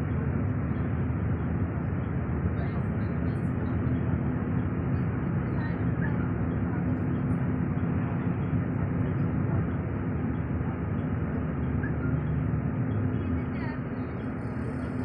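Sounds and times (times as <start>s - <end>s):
bus engine hum and road noise: 0.0s - 15.0s.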